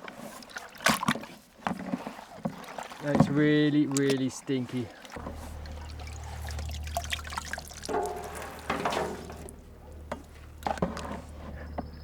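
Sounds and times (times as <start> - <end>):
small splashes and drips: 0.0 - 11.9
liquid sloshing and trickling: 0.0 - 12.0.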